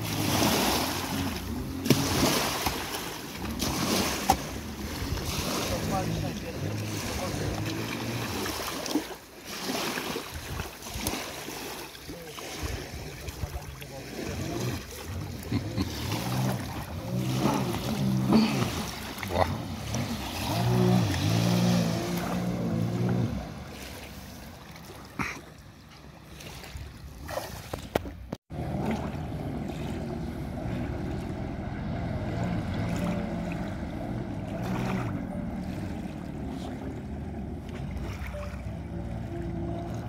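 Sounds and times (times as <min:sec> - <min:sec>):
jet ski engines running: 0:00.0 - 0:40.0.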